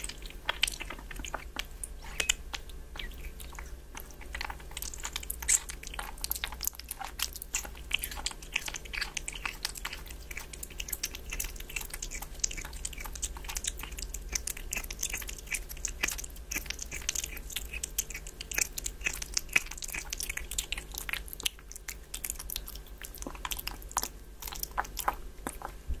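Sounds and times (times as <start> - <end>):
kitten chewing and licking: 0.0 - 26.0.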